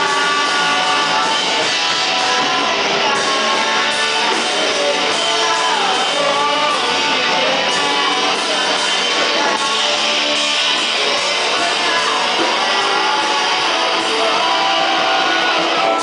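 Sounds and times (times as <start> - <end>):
guitar strummed: 0.0 - 16.0.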